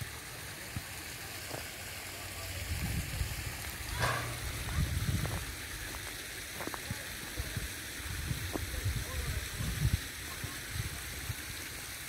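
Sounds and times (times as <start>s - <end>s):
water trickling over stones: 0.0s - 12.0s.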